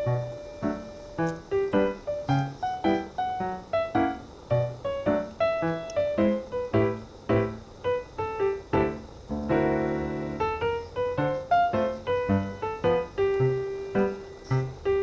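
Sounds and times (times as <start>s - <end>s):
keyboard melody: 0.0s - 15.0s
sustained keyboard chord: 0.0s - 15.0s.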